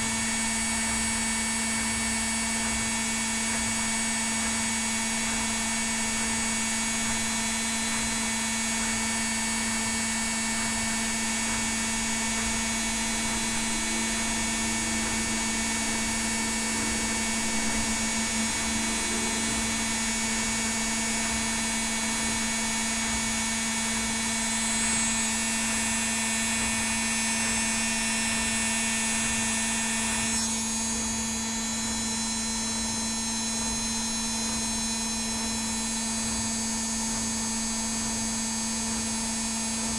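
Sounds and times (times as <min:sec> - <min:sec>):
washing machine motor whine: 0:00.0 - 0:37.5.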